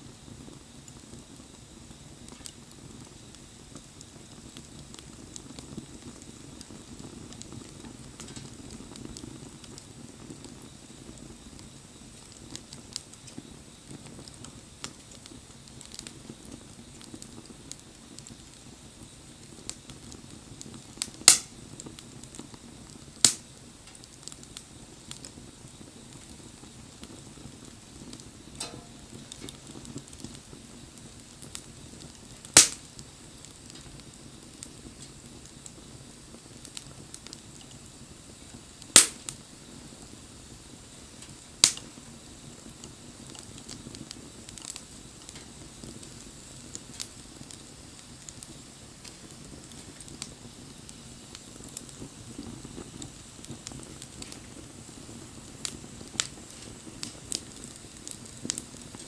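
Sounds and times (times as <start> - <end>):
flames burning: 0.0 - 59.0
small fire crackles: 0.0 - 59.0
sharp pops from burning wood: 0.1 - 59.0.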